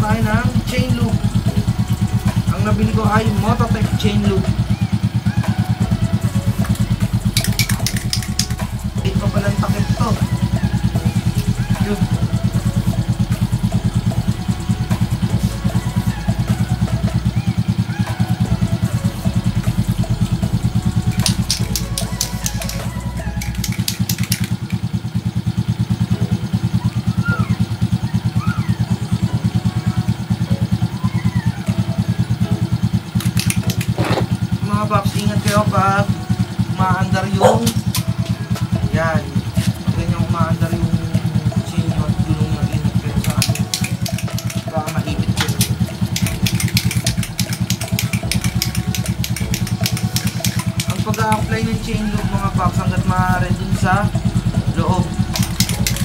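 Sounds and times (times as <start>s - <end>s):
fast irregular ticking: 0.0s - 28.4s, 29.0s - 56.0s
motorcycle engine idling: 0.0s - 56.0s.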